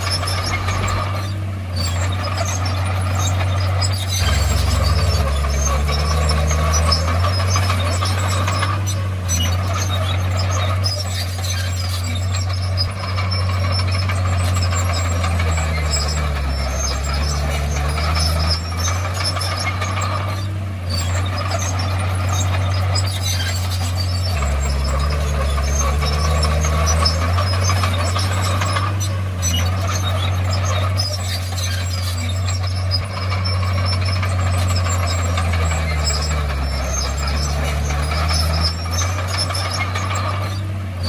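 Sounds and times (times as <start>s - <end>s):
bulldozer diesel engine working: 0.0s - 41.0s
running gear squeaks: 0.0s - 41.0s.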